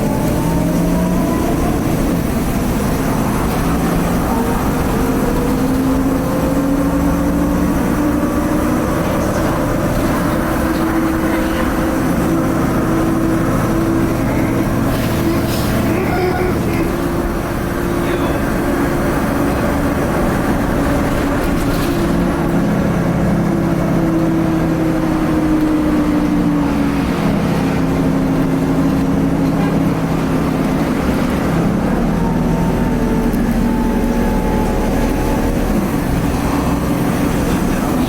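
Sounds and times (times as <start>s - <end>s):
bus engine drone from inside: 0.0s - 38.0s.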